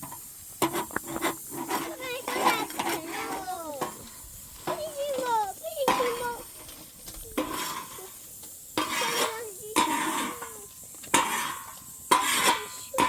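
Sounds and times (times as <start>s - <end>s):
metal utensil scraping a metal pot: 0.1s - 4.8s, 5.9s - 8.2s, 8.8s - 13.0s.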